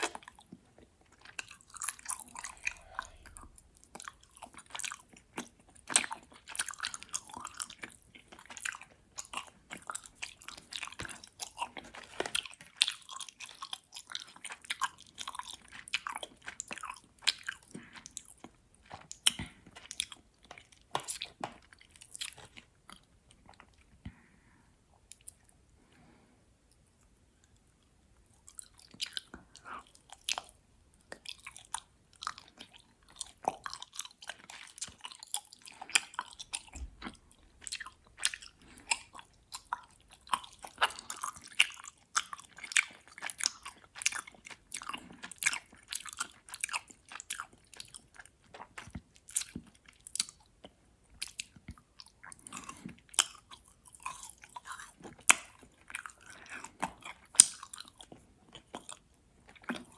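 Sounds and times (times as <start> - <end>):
chewing gummy candy: 0.0 - 24.2, 24.9 - 59.9.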